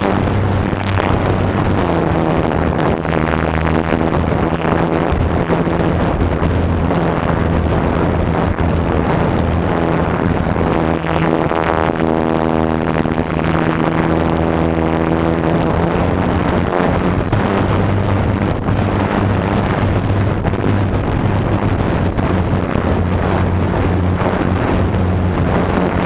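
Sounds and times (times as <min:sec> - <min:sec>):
model plane motor drone: 0:00.0 - 0:26.0
propeller rush: 0:00.0 - 0:26.0.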